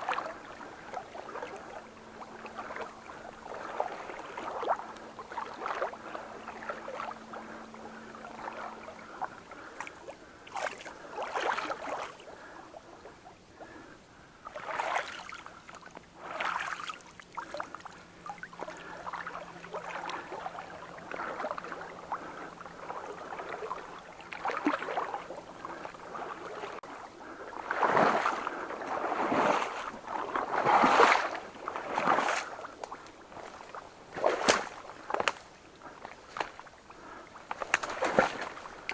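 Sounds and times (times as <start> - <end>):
splashing through shallow water: 0.0 - 38.9.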